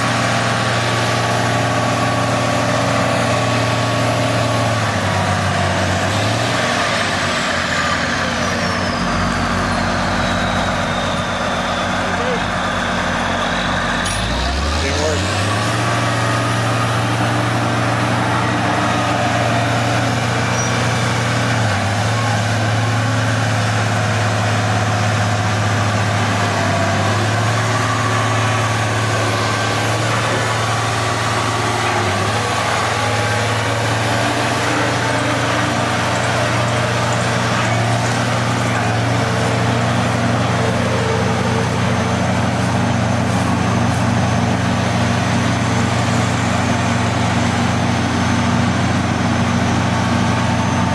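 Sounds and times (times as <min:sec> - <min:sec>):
heavy vehicle engine droning: 0:00.0 - 0:50.9.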